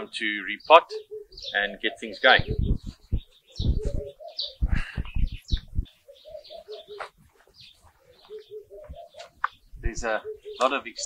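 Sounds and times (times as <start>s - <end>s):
small birds chirping: 0.0s - 11.0s
dove cooing: 0.7s - 11.0s.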